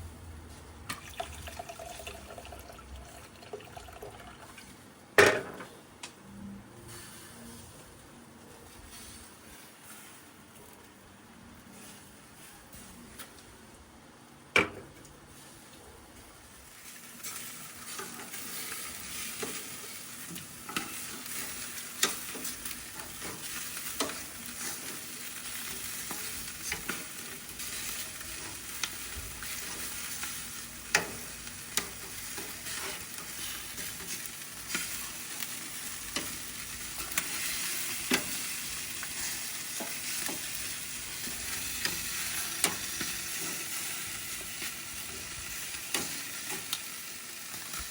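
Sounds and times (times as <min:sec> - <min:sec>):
meat sizzling on a grill: 0:06.8 - 0:13.8, 0:14.7 - 0:47.9.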